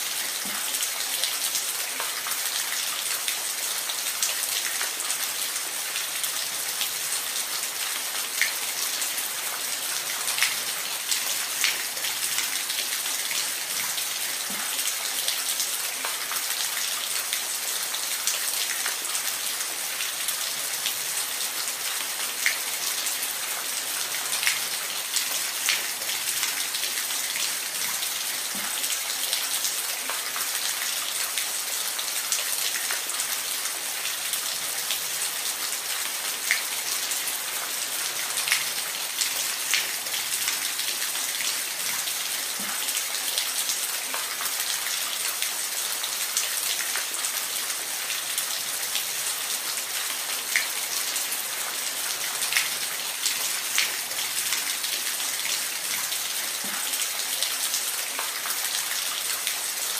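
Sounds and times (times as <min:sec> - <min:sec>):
waterfall falling water: 0:00.0 - 0:59.9.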